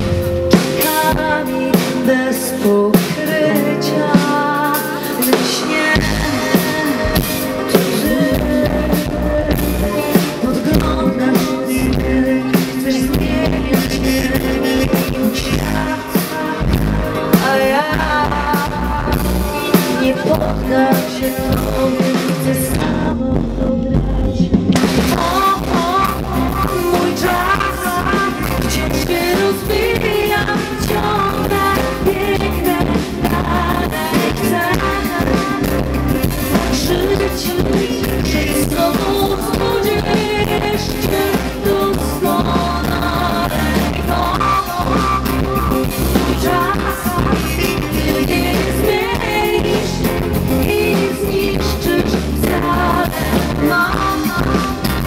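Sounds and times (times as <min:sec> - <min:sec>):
live pop-rock band playing: 0:00.0 - 0:55.0
woman singing into microphone: 0:00.0 - 0:55.0.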